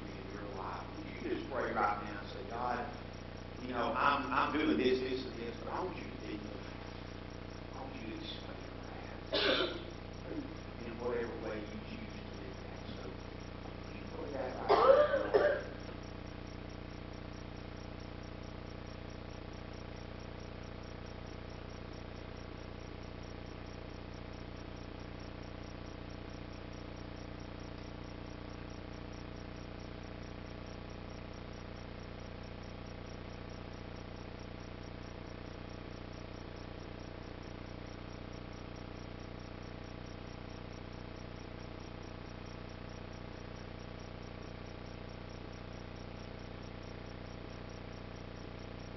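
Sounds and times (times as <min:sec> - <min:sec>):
steady hum with buzz: 0:00.0 - 0:48.9.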